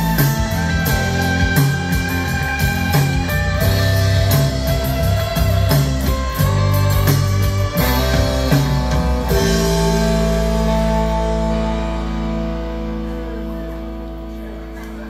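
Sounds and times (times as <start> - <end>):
bass: 0.0 - 15.0
drums: 0.0 - 15.0
electric guitar: 0.0 - 15.0.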